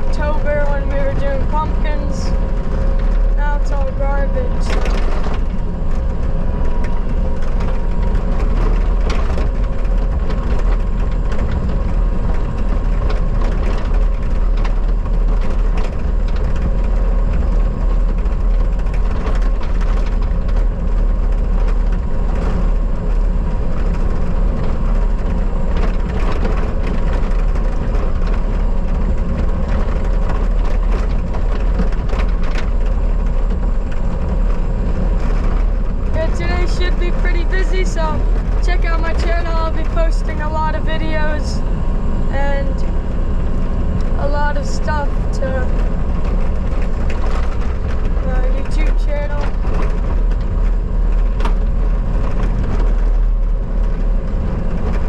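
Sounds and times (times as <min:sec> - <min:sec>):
skid steer engine running: 0:00.0 - 0:55.0.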